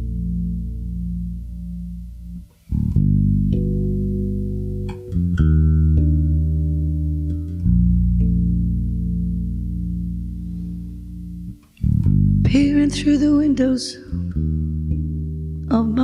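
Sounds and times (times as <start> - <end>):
plucked guitar chords: 0.0 - 16.0.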